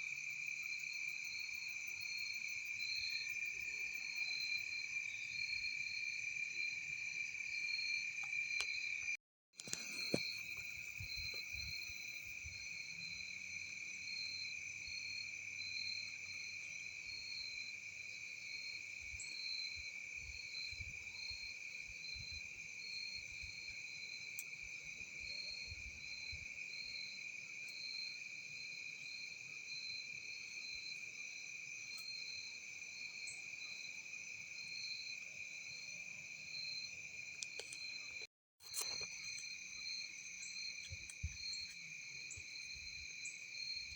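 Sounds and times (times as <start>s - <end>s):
crickets and insects trilling: 0.2s - 25.2s, 26.0s - 43.9s.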